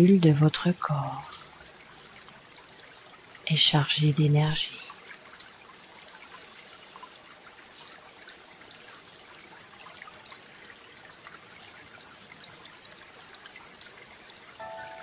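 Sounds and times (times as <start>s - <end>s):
water trickling and babbling: 0.0s - 15.0s.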